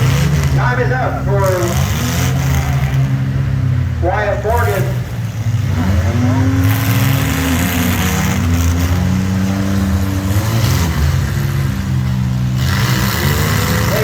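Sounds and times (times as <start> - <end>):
truck engines revving: 0.0 - 14.0.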